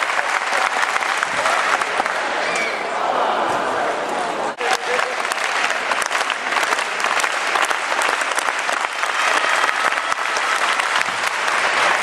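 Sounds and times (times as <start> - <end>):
spectators clapping steadily: 0.0 - 2.8, 4.6 - 12.0.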